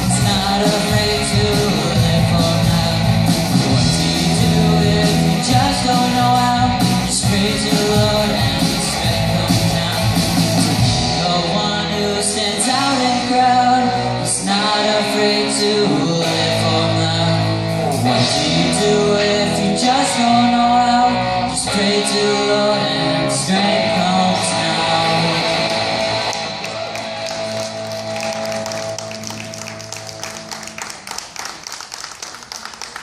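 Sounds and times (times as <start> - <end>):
person singing: 0.0 - 31.0
live pop rock band: 0.0 - 31.4.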